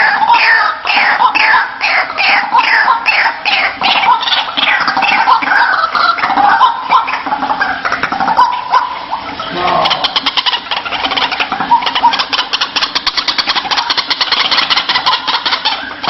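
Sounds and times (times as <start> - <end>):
waterhen calling harsh rattling: 0.0 - 16.0.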